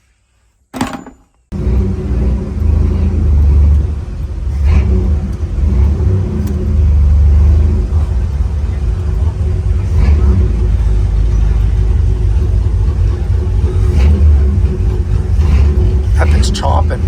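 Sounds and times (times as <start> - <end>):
car engine rumble: 1.5 - 17.0.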